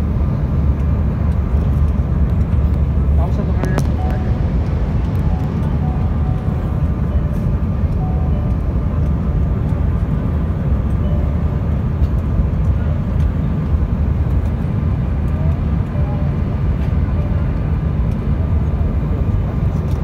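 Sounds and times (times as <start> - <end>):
jet cabin airflow and engine rumble: 0.0 - 20.0.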